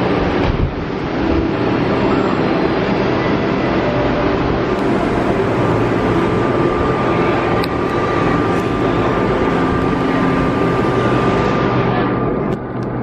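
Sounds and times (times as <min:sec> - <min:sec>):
thin steady whine: 0:00.0 - 0:13.0
vehicle rumble: 0:00.0 - 0:13.0.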